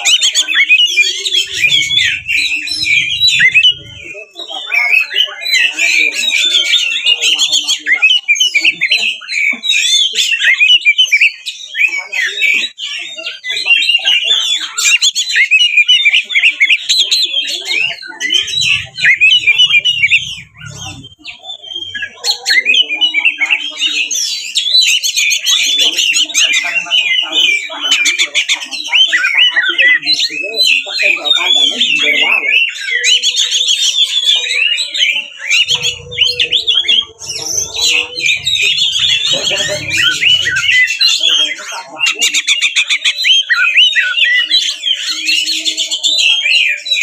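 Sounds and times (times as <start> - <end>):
bird song: 0.0 - 47.0.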